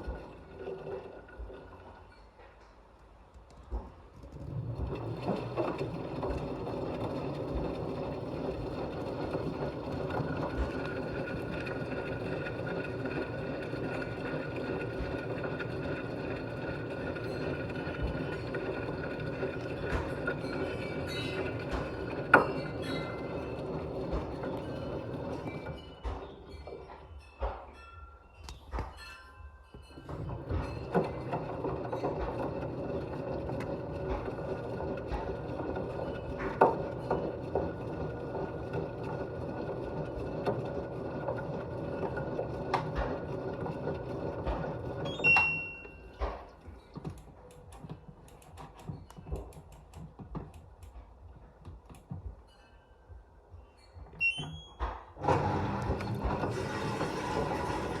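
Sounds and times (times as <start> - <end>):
washing machine motor humming: 4.2 - 26.9, 30.0 - 50.5, 54.2 - 58.0.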